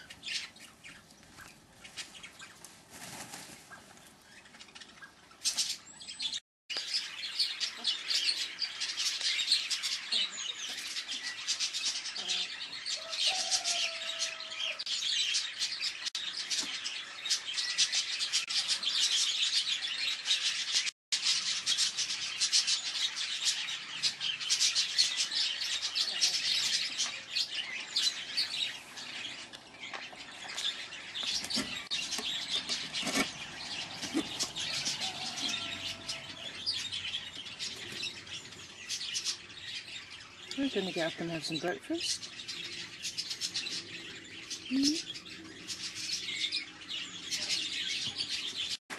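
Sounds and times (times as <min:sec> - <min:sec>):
small birds chirping: 0:00.0 - 0:48.8.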